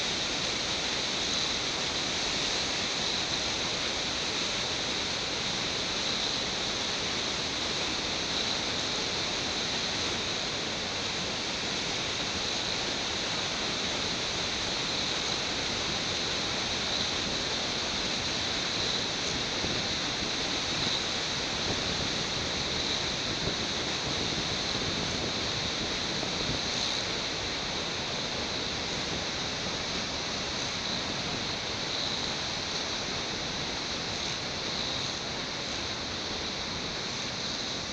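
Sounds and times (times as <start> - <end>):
steady rushing noise: 0.0 - 37.9.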